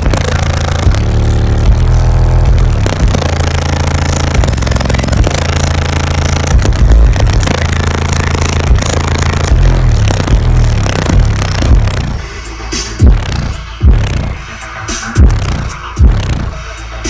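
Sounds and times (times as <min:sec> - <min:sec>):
distorted loud bass music: 0:00.0 - 0:17.0.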